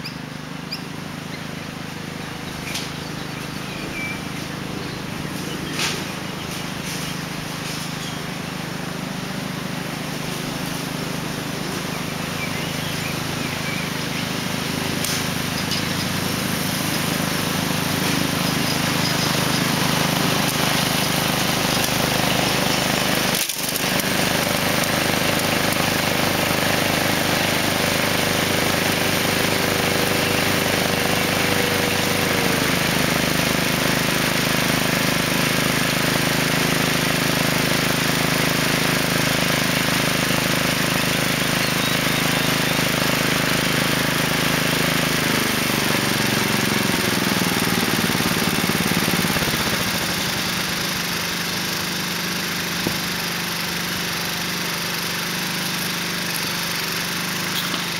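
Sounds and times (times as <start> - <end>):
mower engine running: 0.0 - 57.9
quad bike engine: 0.0 - 57.9.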